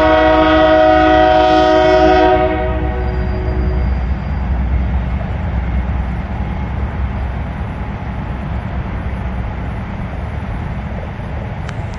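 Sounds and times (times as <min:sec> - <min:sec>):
diesel locomotive rumbling: 0:00.0 - 0:11.9.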